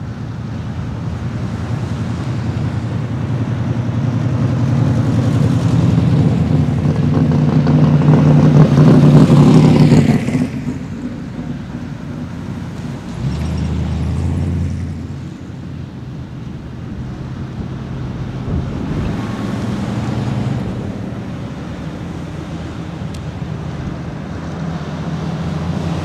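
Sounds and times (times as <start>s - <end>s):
car engines passing slowly: 0.0s - 26.0s
road noise: 0.0s - 26.0s.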